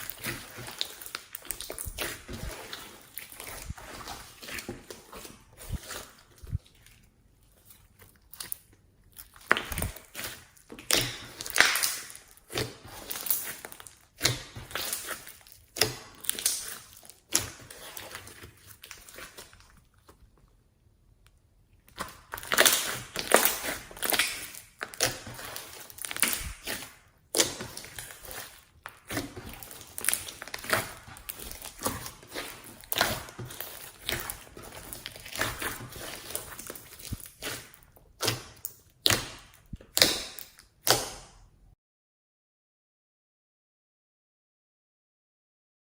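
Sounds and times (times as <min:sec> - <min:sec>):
slime squishing by hand: 0:00.0 - 0:41.7.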